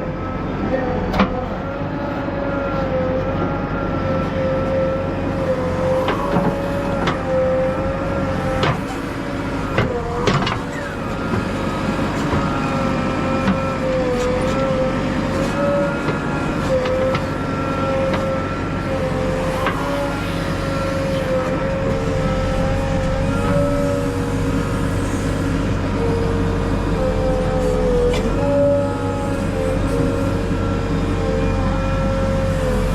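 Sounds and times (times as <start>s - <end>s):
backhoe loader diesel drone: 0.0s - 32.9s.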